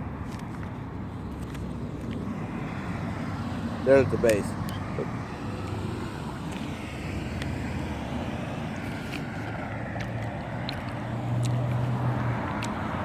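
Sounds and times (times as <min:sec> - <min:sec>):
vehicle rumble and hiss: 0:00.0 - 0:13.0.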